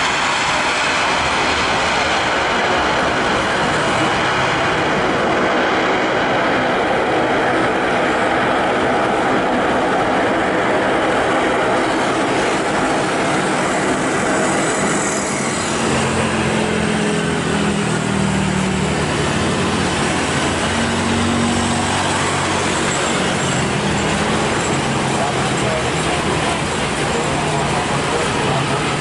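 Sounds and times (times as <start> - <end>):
jet engines roaring: 0.0 - 29.0
low drone: 0.0 - 29.0.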